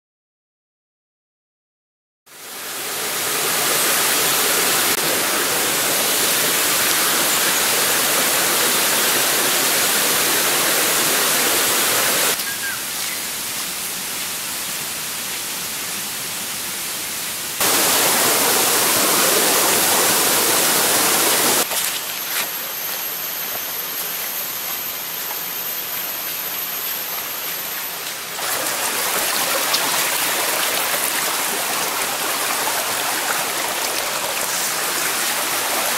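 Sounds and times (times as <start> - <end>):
waterfall and stream rushing: 2.3 - 35.9.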